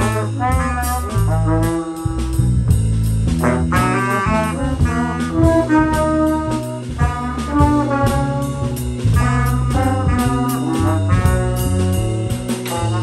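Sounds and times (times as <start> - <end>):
electric bass guitar line: 0.0 - 13.0
steady beat: 0.0 - 13.0
trombones playing jazzy melody: 0.0 - 13.0.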